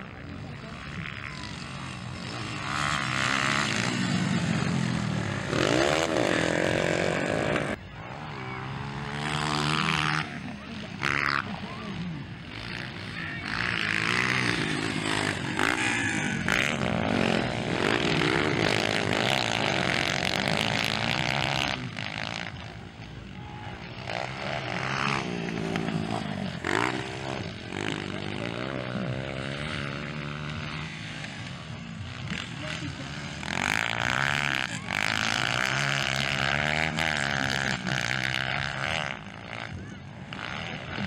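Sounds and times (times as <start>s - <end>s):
motocross bike engines revving: 0.0s - 41.0s.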